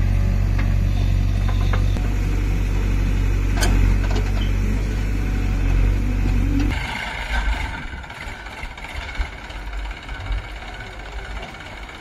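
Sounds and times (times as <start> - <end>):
diesel engine running: 0.0 - 12.0
distant engines running: 0.0 - 12.0.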